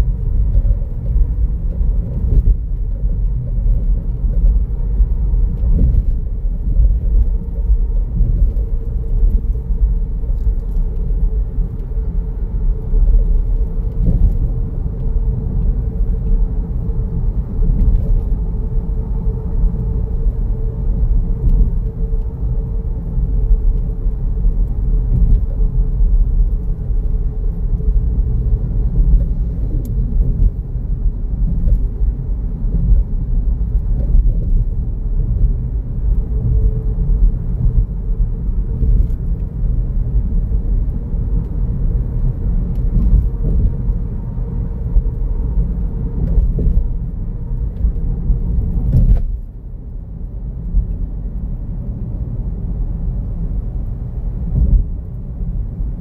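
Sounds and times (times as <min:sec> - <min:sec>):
heavy road rumble: 0:00.0 - 0:56.0.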